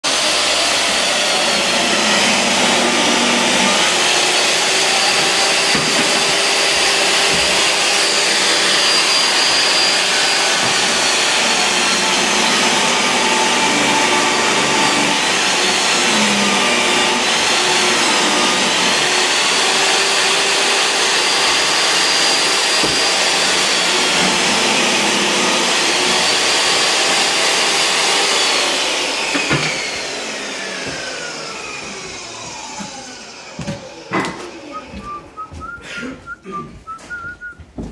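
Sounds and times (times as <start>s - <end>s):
table saw ripping wood: 0.0s - 34.9s.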